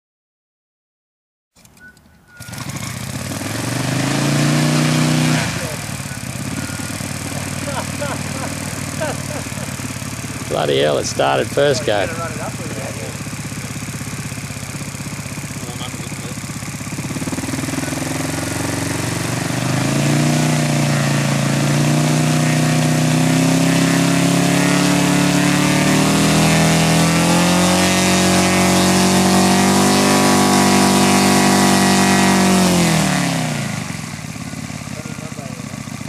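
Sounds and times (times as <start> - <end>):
model aircraft engine revving: 1.6 - 36.0.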